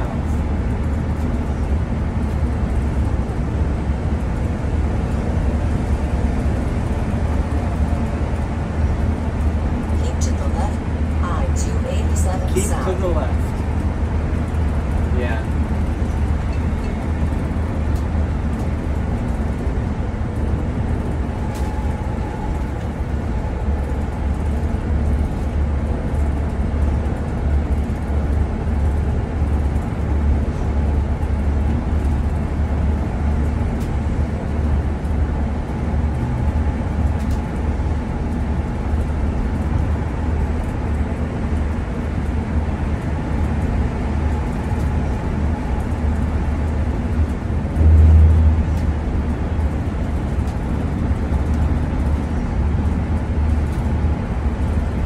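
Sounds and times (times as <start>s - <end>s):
engine and tyres rumbling: 0.0s - 55.0s.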